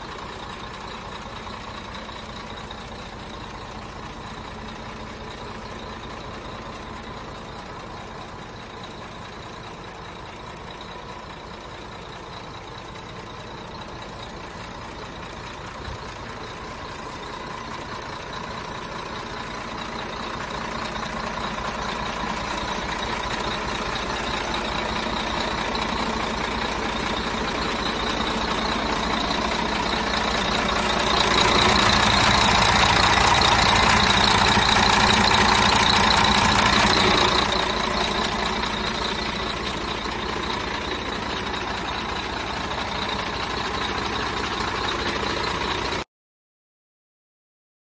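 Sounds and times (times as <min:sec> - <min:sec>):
diesel truck engine idling: 0:00.0 - 0:46.1.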